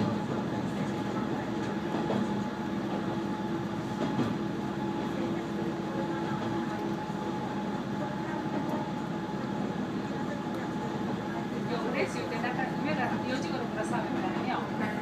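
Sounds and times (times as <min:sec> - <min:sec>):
diesel railcar engine drone: 0:00.0 - 0:15.0
wheels rumbling on rail: 0:00.0 - 0:15.0.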